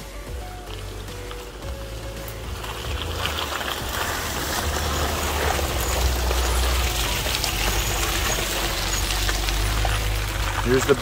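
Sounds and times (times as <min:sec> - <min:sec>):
low engine rumble: 0:00.0 - 0:11.0
tyres sloshing through mud: 0:00.0 - 0:11.0.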